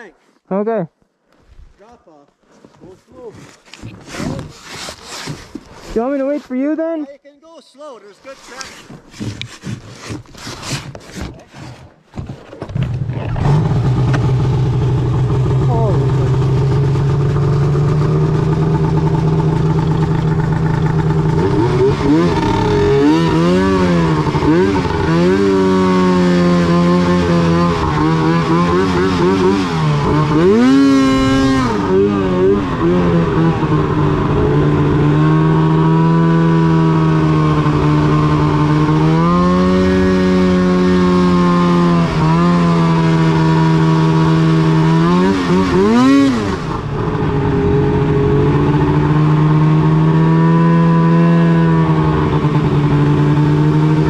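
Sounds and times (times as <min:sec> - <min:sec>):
snowmobile engine revving: 0:07.8 - 0:11.5, 0:12.8 - 0:54.0.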